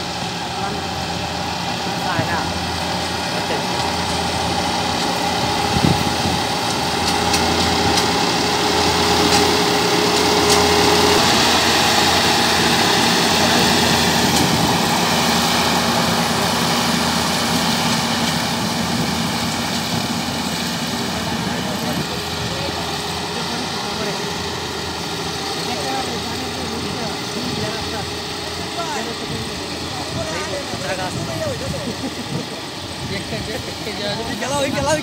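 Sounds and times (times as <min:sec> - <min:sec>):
combine harvester running: 0:00.0 - 0:35.0.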